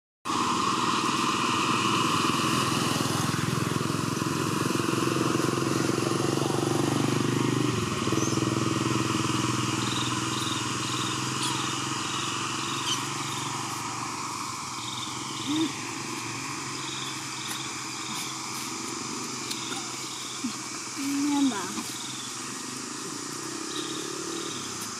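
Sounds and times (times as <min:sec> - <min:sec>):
motor engine running: 0:00.3 - 0:24.9.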